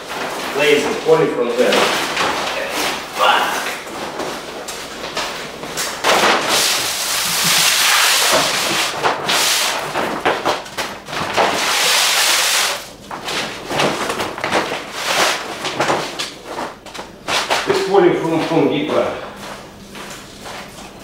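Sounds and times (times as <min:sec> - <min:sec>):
plastic sheeting crinkling: 0:00.0 - 0:21.0.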